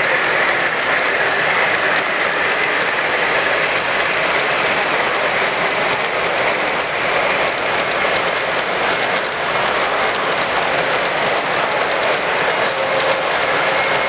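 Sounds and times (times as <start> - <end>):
fine rapid clicking: 0.0 - 14.0
model train wheels rattling on track: 0.0 - 14.0.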